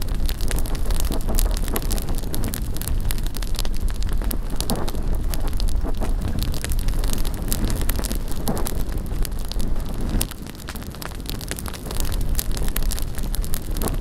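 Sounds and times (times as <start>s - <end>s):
bonfire crackling and popping: 0.0s - 14.0s
wind on microphone: 0.0s - 14.0s.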